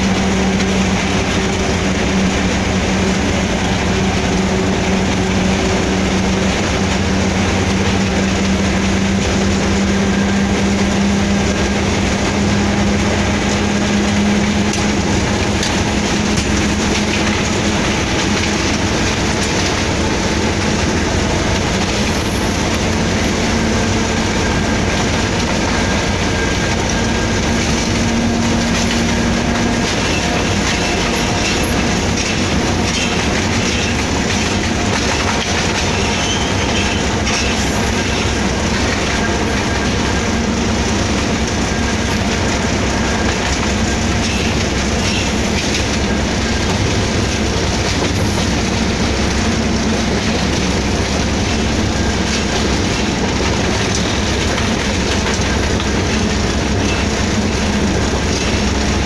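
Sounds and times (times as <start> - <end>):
diesel locomotive engine drone: 0.0 - 59.0
wheels rumbling on track: 0.0 - 59.0.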